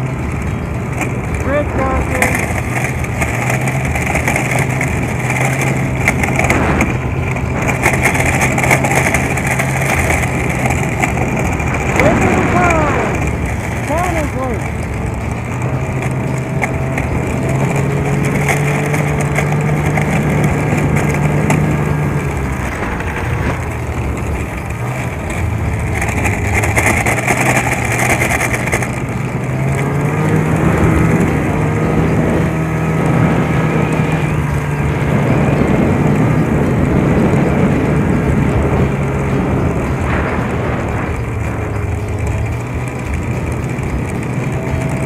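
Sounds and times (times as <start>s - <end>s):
snowmobile engine running: 0.0s - 45.0s.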